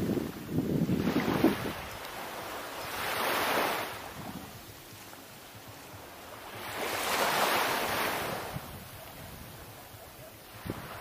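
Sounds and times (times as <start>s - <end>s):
small waves washing onto shore: 0.0s - 11.0s.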